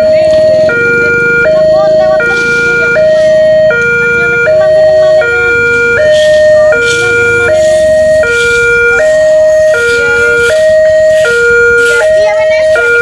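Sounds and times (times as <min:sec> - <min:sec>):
two-tone electronic crossing siren: 0:00.0 - 0:13.0.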